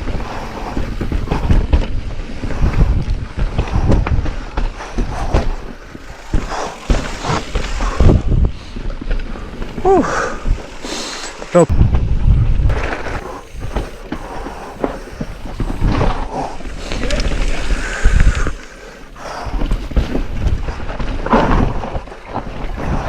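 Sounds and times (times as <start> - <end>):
mountain bike rattling on trail: 0.0 - 23.0
wind buffeting microphone: 0.0 - 23.0.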